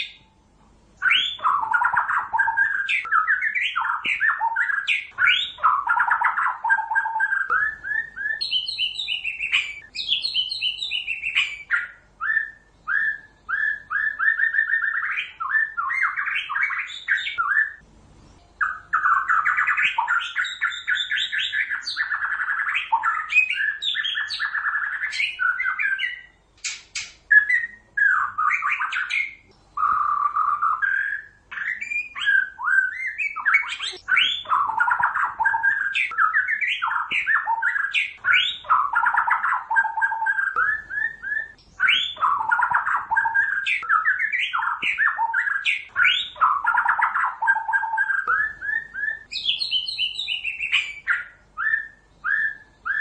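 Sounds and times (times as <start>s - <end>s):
bird singing whistled phrases: 0.0s - 0.3s, 1.0s - 17.8s, 18.6s - 53.0s.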